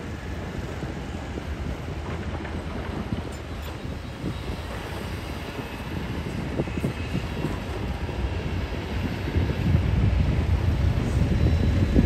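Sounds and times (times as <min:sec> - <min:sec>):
tracks clattering: 0:00.0 - 0:12.0.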